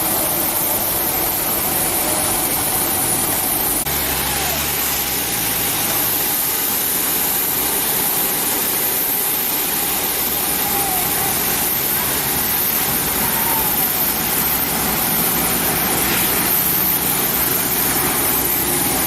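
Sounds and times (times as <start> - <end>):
jet engines at taxi power: 0.0 - 19.0
turboprop engines running: 0.0 - 19.0.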